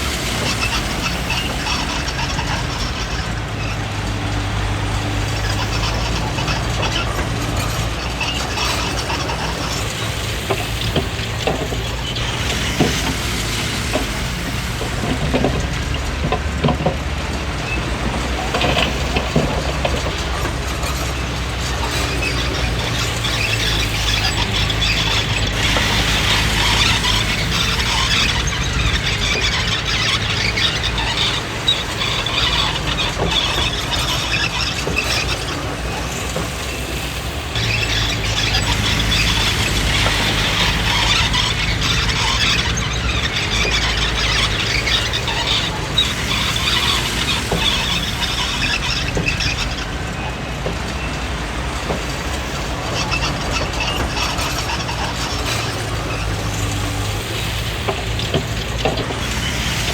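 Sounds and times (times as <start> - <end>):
diesel engine droning: 0.0 - 59.9
steel tracks squealing and clattering: 0.0 - 59.9.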